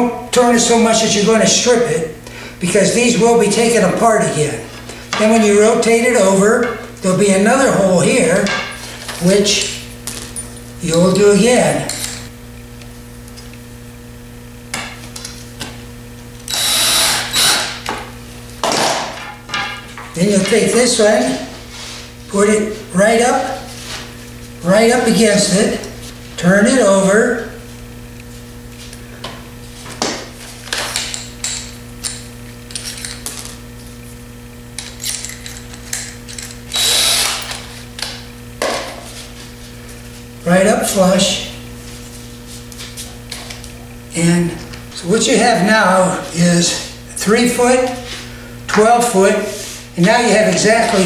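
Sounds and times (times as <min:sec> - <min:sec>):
electrical hum: 0:00.0 - 0:51.0.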